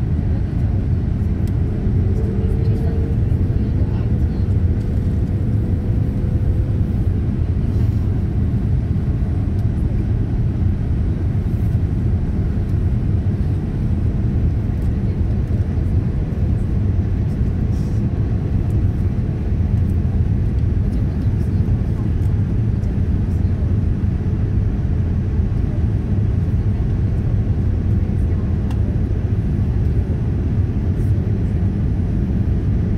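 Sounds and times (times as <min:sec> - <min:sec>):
airplane cabin engine rumble: 0:00.0 - 0:32.9.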